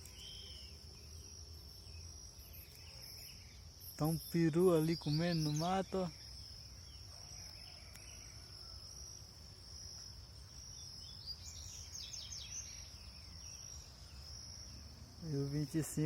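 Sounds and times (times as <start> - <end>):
bird chirps: 0.0 - 9.2, 9.9 - 16.0
insects droning: 0.0 - 16.0.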